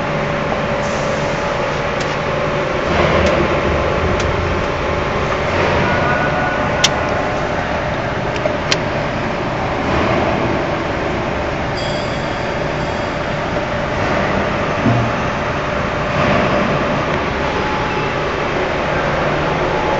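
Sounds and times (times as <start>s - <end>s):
machine humming and whirring: 0.0s - 19.9s.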